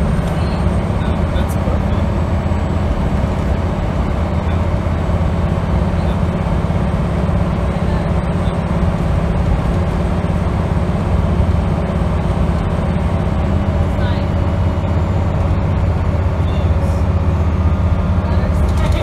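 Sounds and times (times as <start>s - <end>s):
bus diesel engine running: 0.0s - 19.0s
road and tyre noise: 0.0s - 19.0s.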